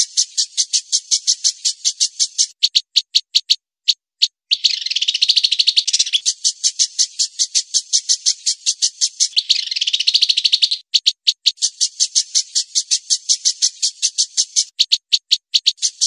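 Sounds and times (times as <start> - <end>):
songbird trilling call: 0.0 - 16.0.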